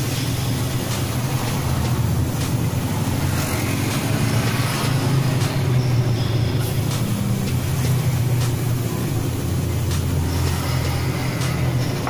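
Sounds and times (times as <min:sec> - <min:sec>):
even hiss: 0:00.0 - 0:12.0
low machine drone: 0:00.0 - 0:12.0.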